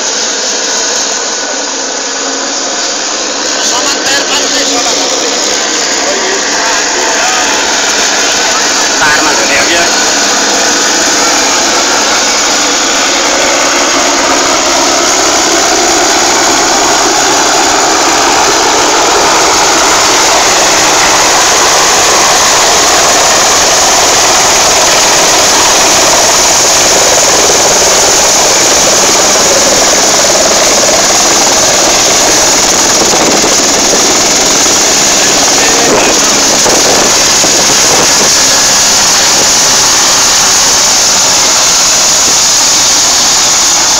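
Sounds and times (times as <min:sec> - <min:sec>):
helicopter rotor and turbine: 0:00.0 - 0:43.9.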